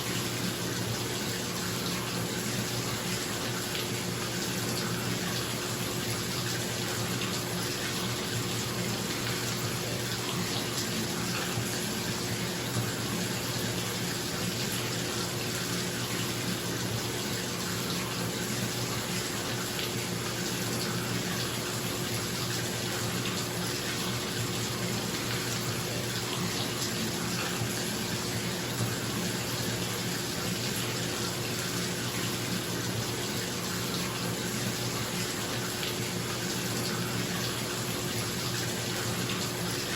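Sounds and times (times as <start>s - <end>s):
faucet running into tub: 0.0s - 39.9s.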